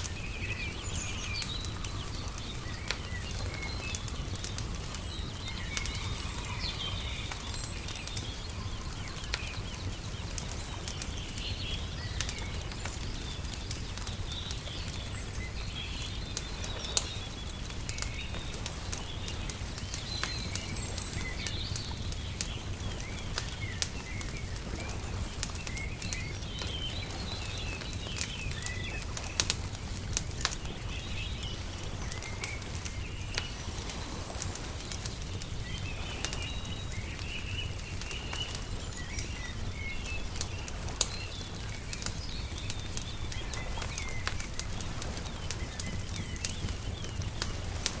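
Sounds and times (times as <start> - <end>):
small birds chirping: 0.0 - 48.0
wood fire crackling and popping: 0.0 - 48.0.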